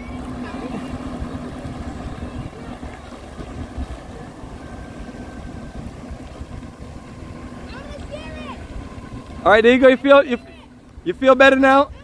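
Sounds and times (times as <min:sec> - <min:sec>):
jet ski engine drone: 0:00.0 - 0:12.0
wind on microphone: 0:00.0 - 0:12.0.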